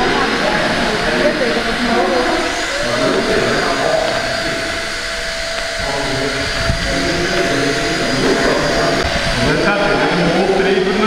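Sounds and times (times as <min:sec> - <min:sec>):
small helicopter rotor whine: 0:00.0 - 0:11.0.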